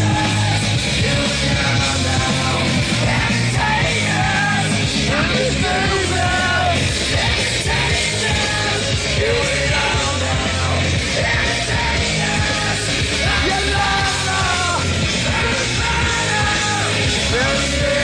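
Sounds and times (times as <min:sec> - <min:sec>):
punk rock music: 0:00.0 - 0:18.0
shouted vocals: 0:00.0 - 0:18.0.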